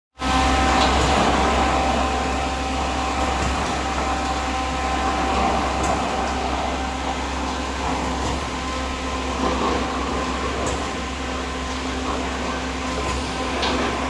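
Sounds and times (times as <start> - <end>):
concrete pump machine drone: 0.2 - 14.0.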